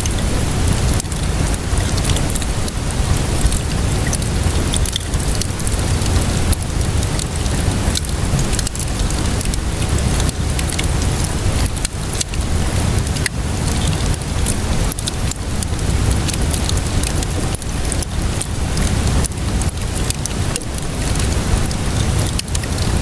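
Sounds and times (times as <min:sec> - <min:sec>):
rainfall: 0:00.0 - 0:23.0
wood fire crackling: 0:00.0 - 0:23.0.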